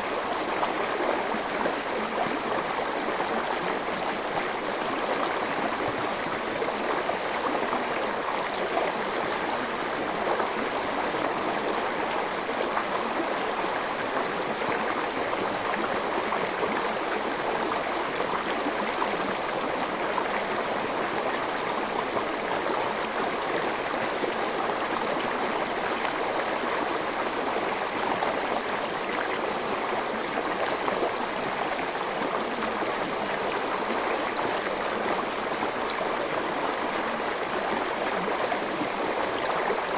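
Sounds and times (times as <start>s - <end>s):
stream flowing over rocks: 0.0s - 39.9s
water gurgling: 0.0s - 39.9s.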